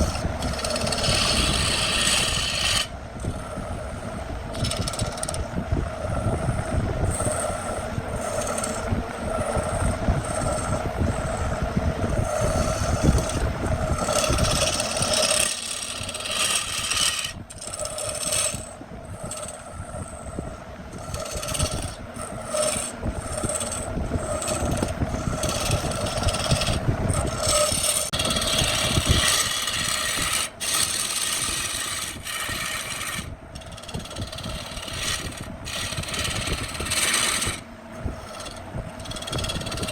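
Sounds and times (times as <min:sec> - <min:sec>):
tool scraping spinning wood: 0:00.0 - 0:39.9
wood lathe whining: 0:00.0 - 0:39.9.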